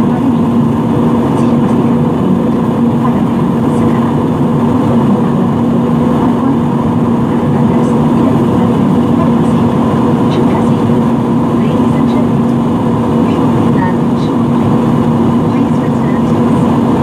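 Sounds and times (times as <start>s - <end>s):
jet engines and airflow rushing: 0.0s - 17.0s
low cabin hum: 0.0s - 17.0s.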